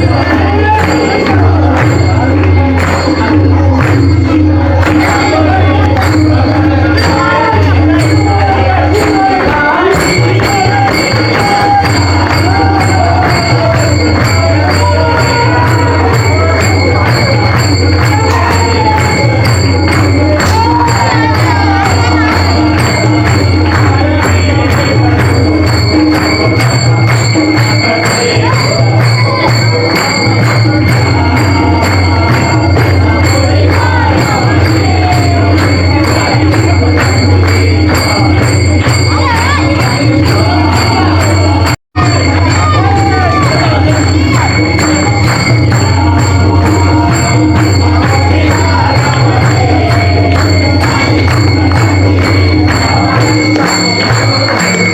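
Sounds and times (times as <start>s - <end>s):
devotional singing: 0.0s - 54.9s
jingling percussion: 0.0s - 54.9s.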